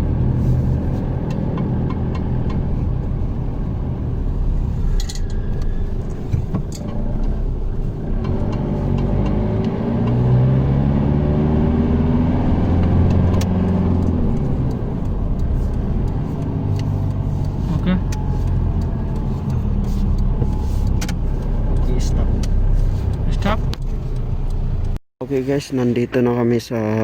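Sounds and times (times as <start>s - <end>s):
vehicle engine running: 0.0s - 25.6s.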